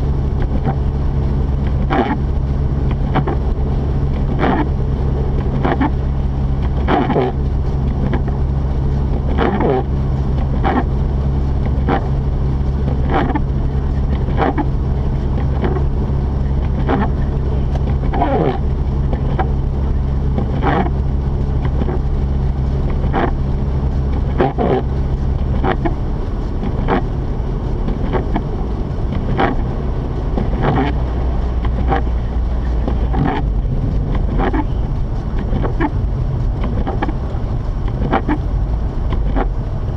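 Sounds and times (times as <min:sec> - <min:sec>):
road noise: 0:00.0 - 0:39.9
rotary engine droning: 0:00.0 - 0:39.9.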